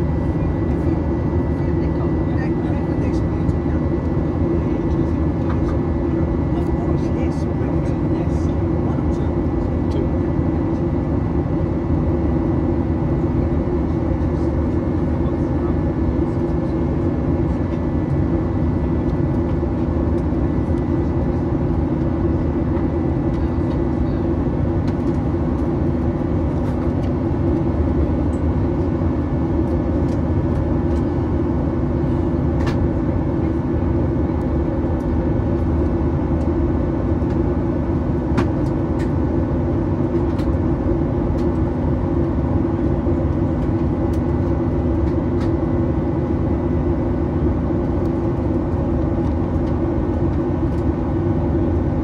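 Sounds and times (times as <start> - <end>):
airplane cabin engine roar: 0.0 - 52.0.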